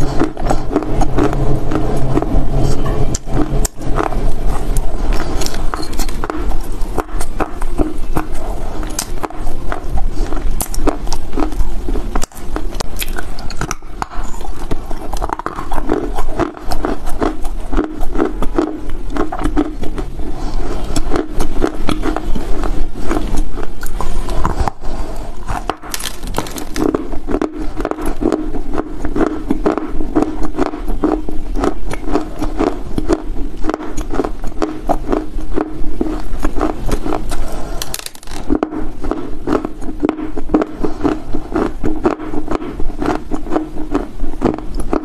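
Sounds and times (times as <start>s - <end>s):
crunching and chewing dry earth: 0.0s - 45.0s.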